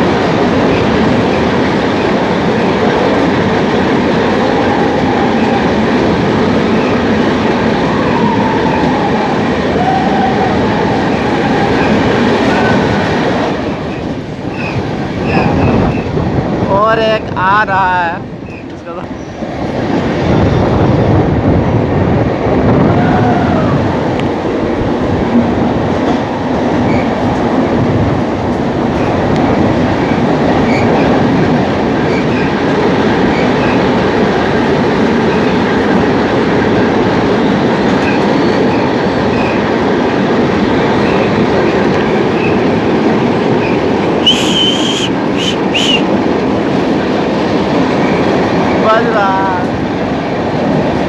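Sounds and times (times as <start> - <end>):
train rumbling in tunnel: 0.0 - 51.0.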